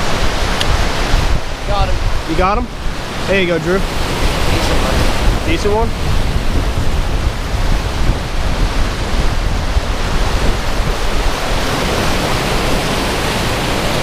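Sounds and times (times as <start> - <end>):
spillway water rushing: 0.0 - 14.0
wind buffeting microphone: 0.0 - 14.0.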